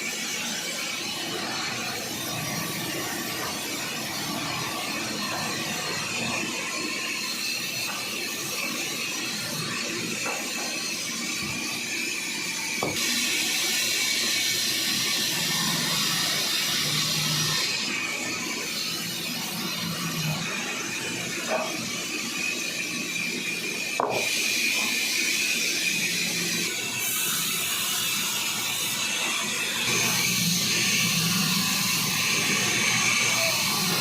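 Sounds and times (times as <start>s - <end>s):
band saw cutting log: 0.0s - 34.0s.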